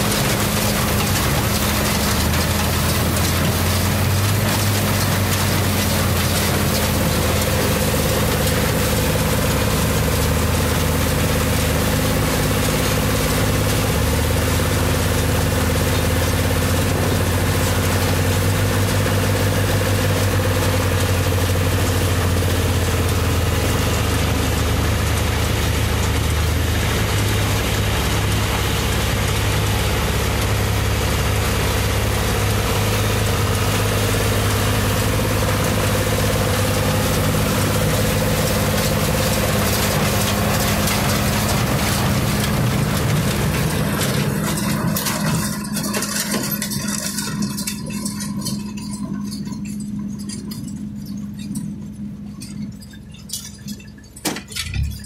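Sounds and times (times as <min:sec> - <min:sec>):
baler machinery clattering: 0:00.0 - 0:55.0
tractor diesel engine running: 0:00.0 - 0:55.0.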